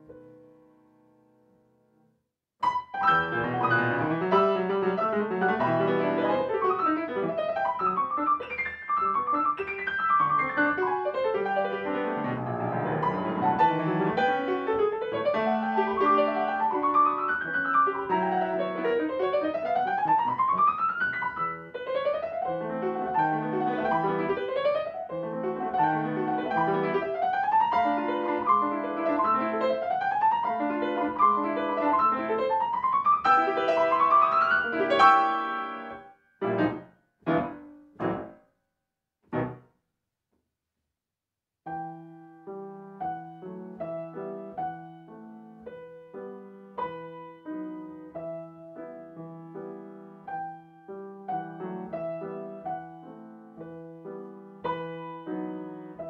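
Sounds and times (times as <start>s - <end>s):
solo grand piano piece: 0.0s - 2.0s, 2.6s - 38.4s, 39.3s - 39.7s, 41.7s - 56.0s.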